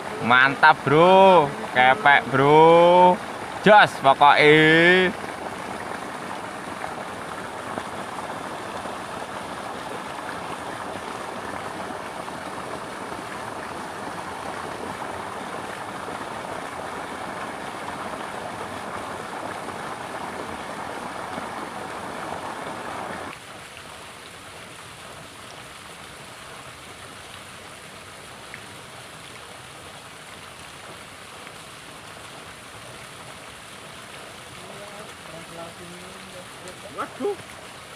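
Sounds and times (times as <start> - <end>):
river rushing over stones: 0.0 - 37.9.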